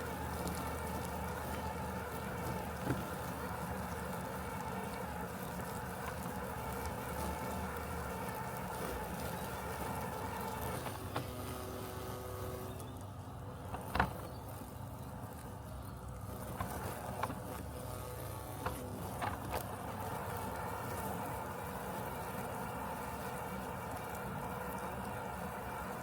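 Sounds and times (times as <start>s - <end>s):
robotic lawn mower humming: 0.0s - 26.0s.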